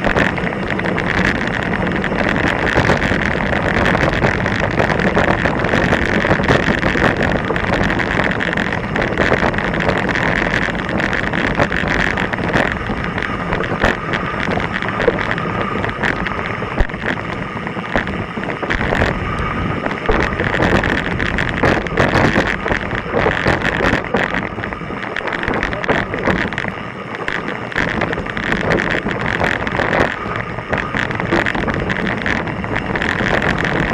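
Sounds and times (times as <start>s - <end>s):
bike tyres clattering on stones: 0.0s - 33.9s
wind buffeting microphone: 0.0s - 33.9s.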